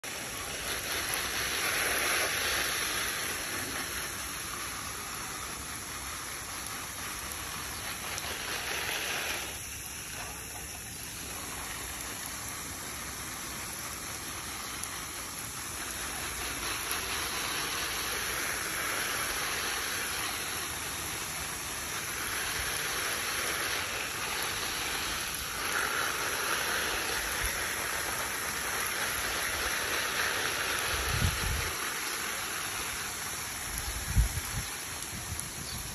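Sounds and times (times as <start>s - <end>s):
hose water spraying on plants: 0.0s - 35.9s.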